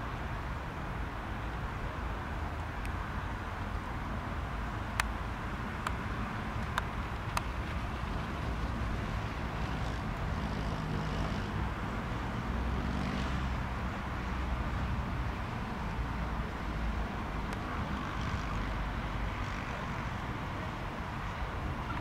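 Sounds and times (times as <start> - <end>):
jet engines distant rumble: 0.0 - 22.0.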